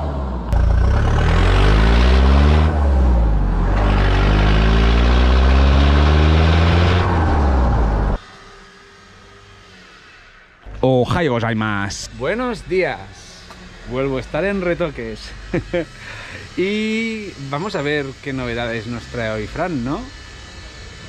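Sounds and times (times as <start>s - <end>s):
diesel engine accelerating: 0.0s - 10.0s, 10.7s - 21.0s.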